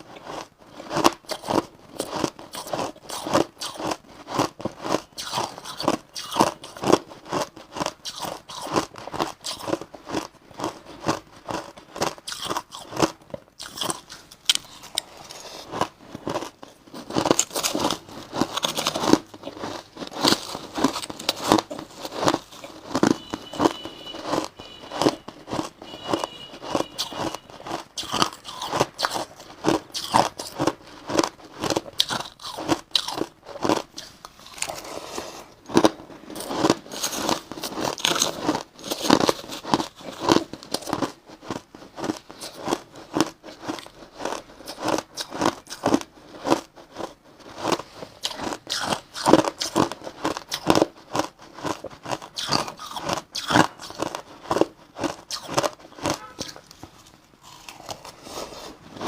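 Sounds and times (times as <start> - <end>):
crunching ice being chewed: 0.0 - 59.0.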